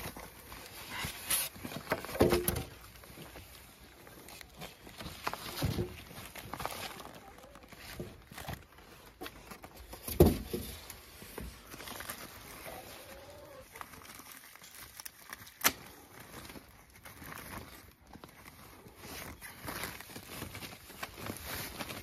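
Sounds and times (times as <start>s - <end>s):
packaging wrap rustling: 0.0s - 22.0s.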